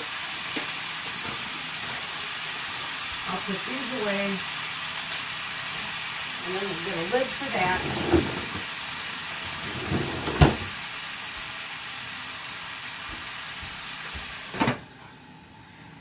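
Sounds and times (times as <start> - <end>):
vegetables sizzling in skillet: 0.0 - 15.1.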